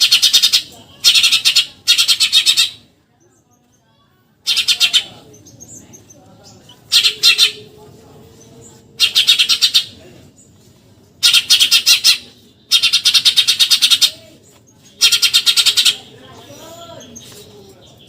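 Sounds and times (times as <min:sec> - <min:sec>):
sparrow chattering: 0:00.0 - 0:03.5, 0:04.4 - 0:10.6, 0:11.2 - 0:18.0.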